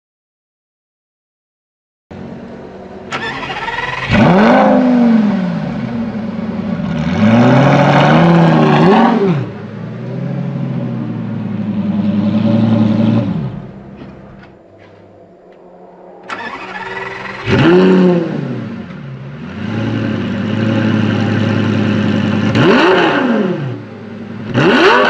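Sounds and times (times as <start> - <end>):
sports car engine revving: 2.1 - 15.5, 16.2 - 25.0.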